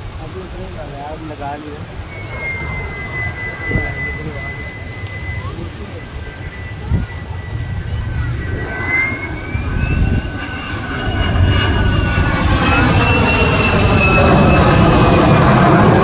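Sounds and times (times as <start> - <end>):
jet aircraft flying by: 0.0 - 16.0.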